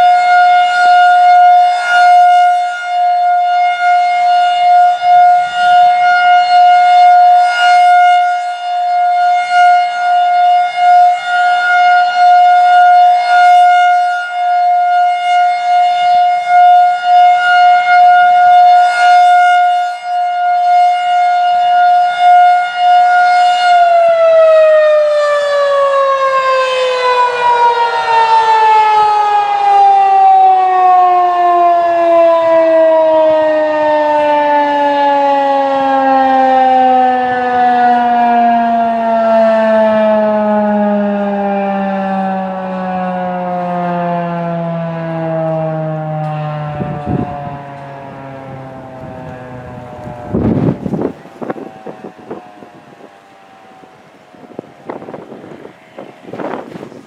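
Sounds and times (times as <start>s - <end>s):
rotating tornado siren: 0.0s - 57.0s.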